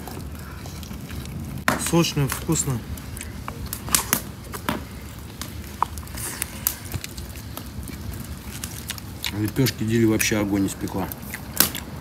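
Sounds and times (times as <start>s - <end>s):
crunching and chewing: 0.0s - 12.0s.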